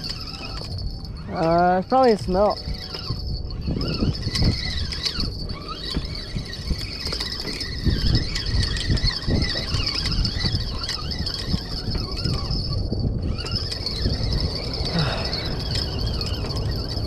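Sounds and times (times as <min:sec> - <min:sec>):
fishing reel gear whine: 0:00.0 - 0:17.0.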